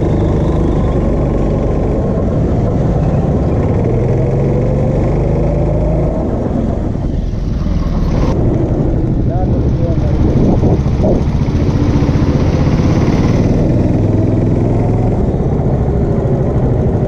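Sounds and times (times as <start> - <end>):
go-kart engine revving: 0.0 - 17.0.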